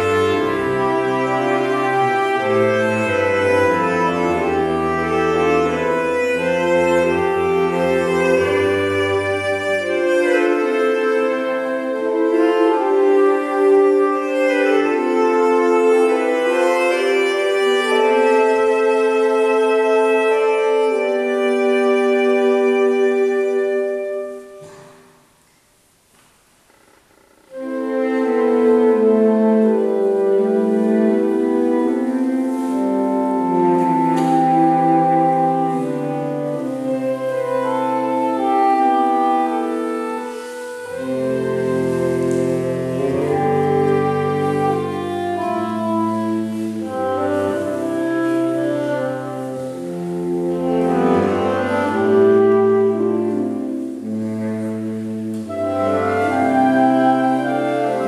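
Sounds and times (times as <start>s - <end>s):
baritone saxophone bass notes: 0.0s - 25.0s, 27.4s - 58.0s
saxophone quartet playing chords: 0.0s - 25.3s, 27.4s - 58.0s.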